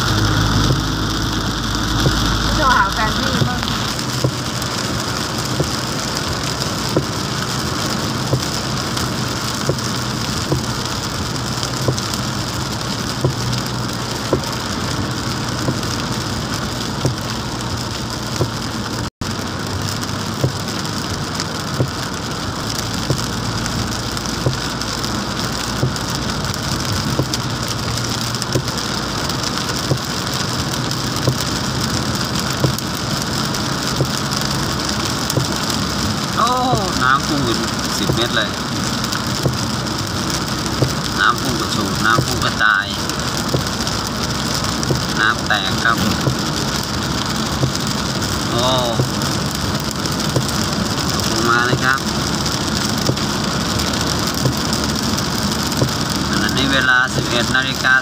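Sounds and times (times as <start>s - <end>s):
engine and tyre hum: 0.0s - 57.8s
rain beating on a car: 0.0s - 58.0s.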